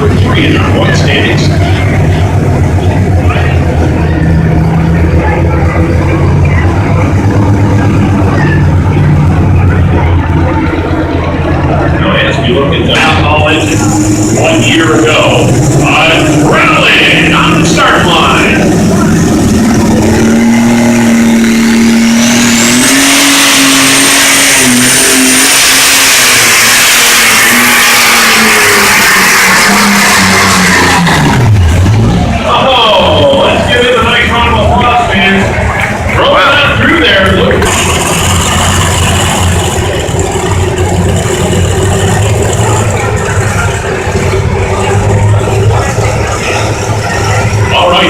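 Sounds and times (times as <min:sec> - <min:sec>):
high turbo whine: 0:00.0 - 0:48.0
pulling tractor engine at full throttle: 0:00.0 - 0:48.0.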